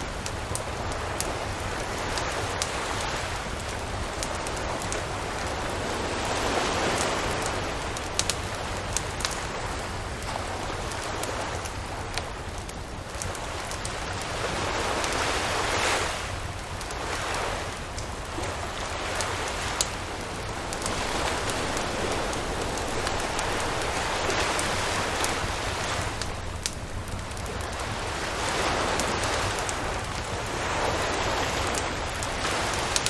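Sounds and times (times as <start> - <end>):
campfire crackling: 0.0 - 33.0
waves washing on beach: 0.0 - 33.0.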